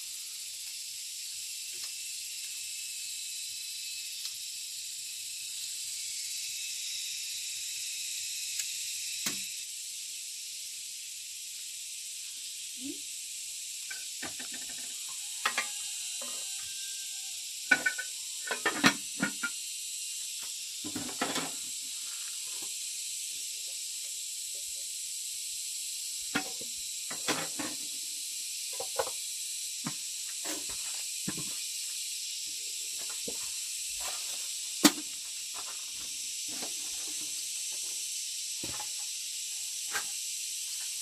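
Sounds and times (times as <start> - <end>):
steady high hiss: 0.0 - 41.0.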